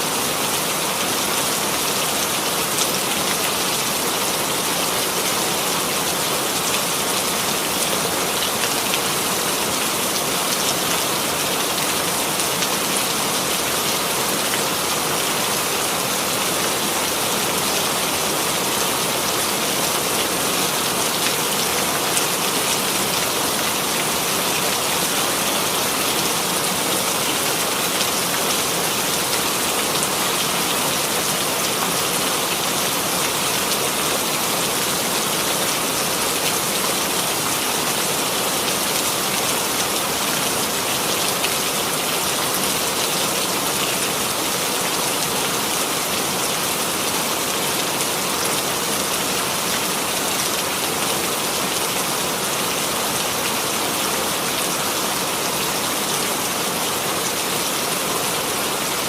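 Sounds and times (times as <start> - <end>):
rain pattering on a surface: 0.2 - 59.0.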